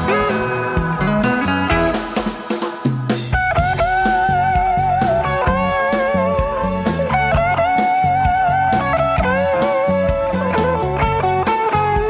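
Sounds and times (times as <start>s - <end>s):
guitar melody with bending notes: 0.0s - 12.0s
steady drum beat: 0.0s - 12.0s.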